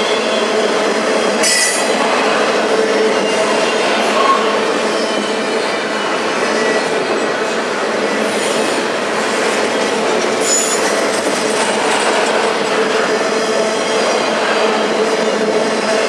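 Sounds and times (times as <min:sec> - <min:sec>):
high wheel squeal: 0:00.0 - 0:08.8, 0:09.6 - 0:11.1, 0:12.7 - 0:16.0
train wheels rolling on rails: 0:00.0 - 0:16.0.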